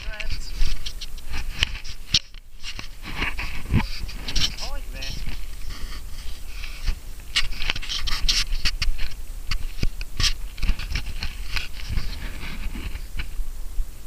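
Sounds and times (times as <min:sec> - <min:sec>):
grass brushing against camera: 0:00.0 - 0:14.0
wind rumbling on microphone: 0:00.0 - 0:14.0.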